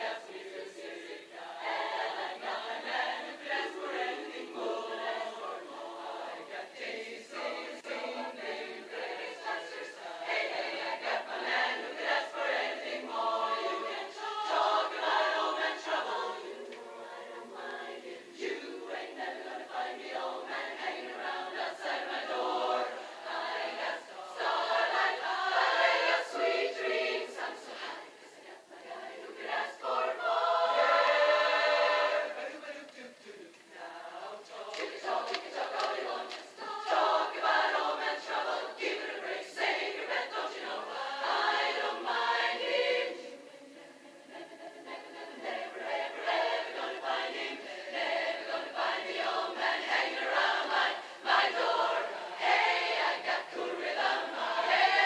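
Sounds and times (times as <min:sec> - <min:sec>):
women's chorus singing a cappella: 0:00.0 - 0:55.0.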